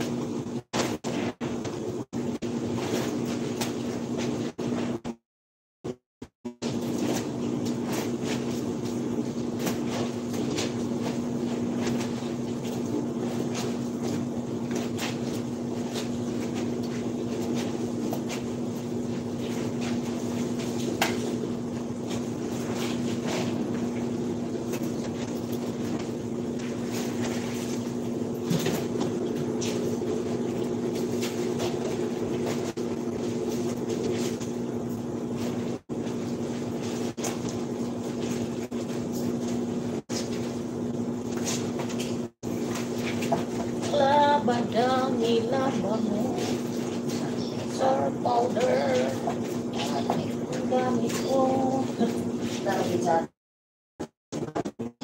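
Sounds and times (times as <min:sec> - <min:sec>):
machine hum: 0:05.9 - 0:53.3.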